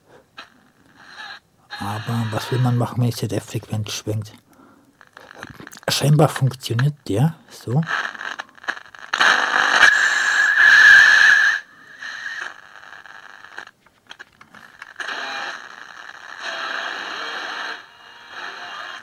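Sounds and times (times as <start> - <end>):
radio static hiss and crackle: 0.0 - 19.0.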